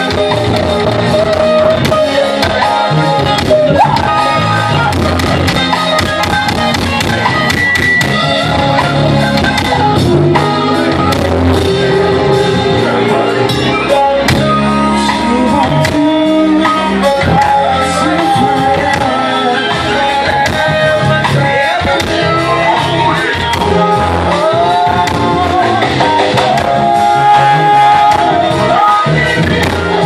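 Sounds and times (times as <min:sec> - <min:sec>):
drums: 0:00.0 - 0:30.0
electric guitar: 0:00.0 - 0:30.0
man singing: 0:00.0 - 0:30.0.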